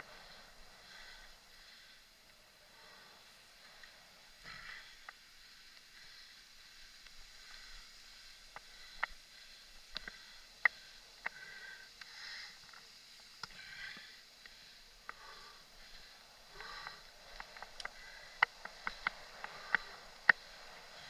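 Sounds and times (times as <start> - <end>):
bike rattling over dirt trail: 0.0 - 21.0
faint hiss: 0.0 - 21.0.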